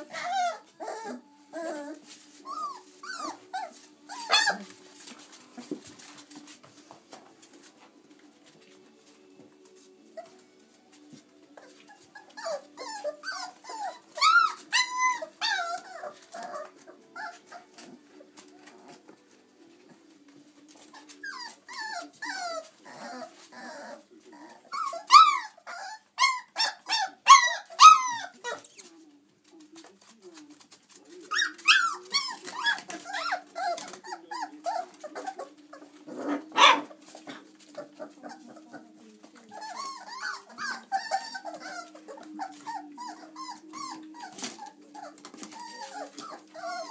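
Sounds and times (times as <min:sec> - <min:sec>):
puppies yipping and squeaking: 0:00.0 - 0:07.6, 0:09.7 - 0:19.1, 0:20.7 - 0:29.0, 0:30.0 - 0:46.9.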